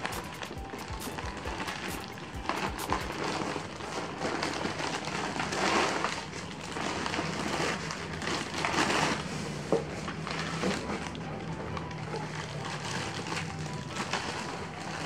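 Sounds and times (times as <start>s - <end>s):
plastic wrap and bag rustling: 0.0s - 15.0s.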